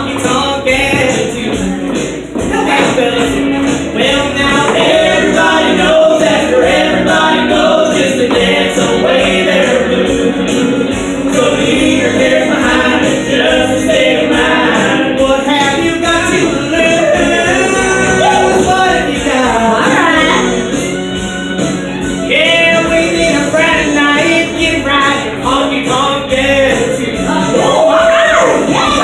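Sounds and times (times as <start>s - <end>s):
honky-tonk song with group vocals: 0.0s - 29.0s.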